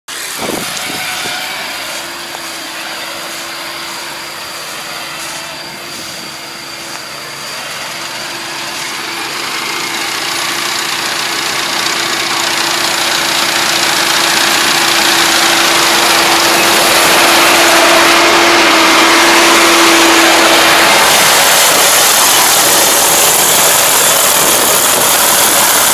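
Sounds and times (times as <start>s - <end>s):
combine harvester running: 0.1s - 25.9s.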